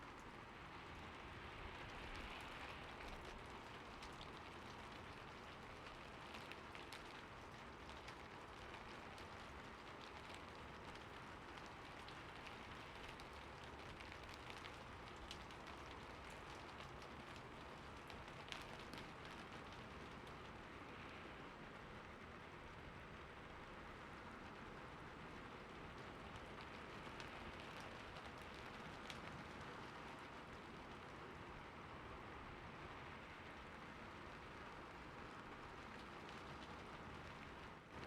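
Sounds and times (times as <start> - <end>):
heavy rain falling: 0.5 - 38.0.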